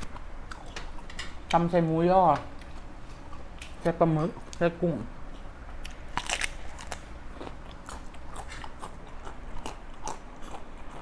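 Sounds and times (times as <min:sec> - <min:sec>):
person chewing crunchy food: 0:00.0 - 0:01.6, 0:02.6 - 0:11.0.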